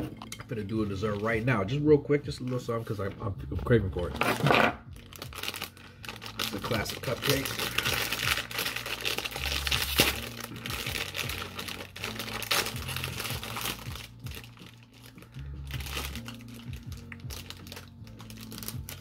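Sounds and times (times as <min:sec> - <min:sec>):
paper wrapper crinkling: 0:00.6 - 0:01.6, 0:04.2 - 0:19.0.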